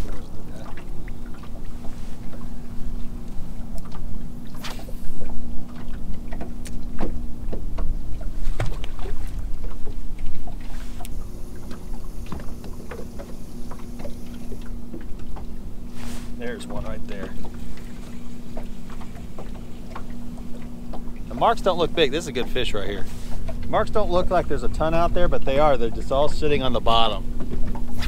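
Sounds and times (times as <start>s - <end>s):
steady low hum: 0.0s - 28.0s
water lapping against boat hull: 0.0s - 28.0s.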